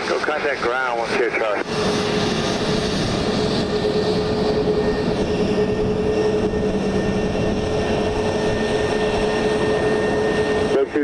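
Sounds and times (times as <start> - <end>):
jet airliner engines roaring: 0.0 - 11.0.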